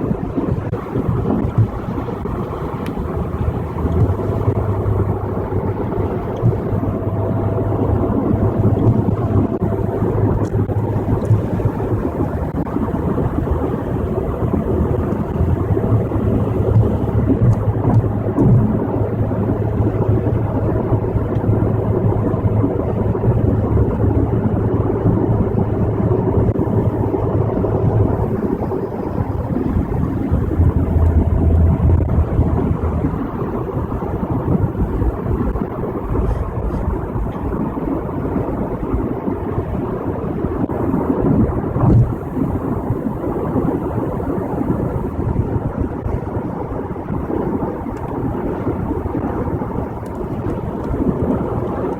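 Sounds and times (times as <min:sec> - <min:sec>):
car engine and tyres rumbling: 0:00.0 - 0:51.9
road noise hiss: 0:00.0 - 0:51.9.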